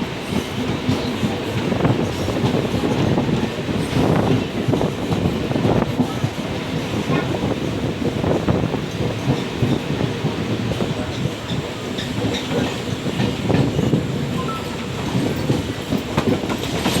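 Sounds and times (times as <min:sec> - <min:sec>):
train wheels clattering on rails: 0:00.0 - 0:17.0.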